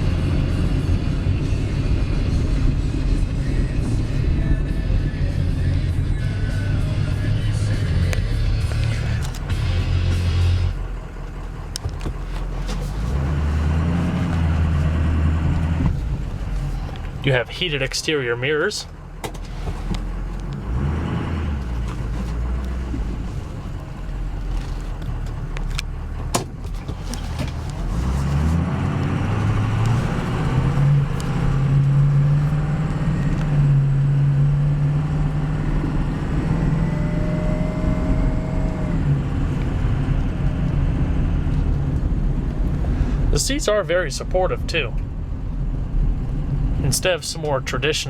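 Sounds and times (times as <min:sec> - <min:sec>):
diesel truck engine: 0:00.0 - 0:48.0
road noise: 0:00.0 - 0:48.0.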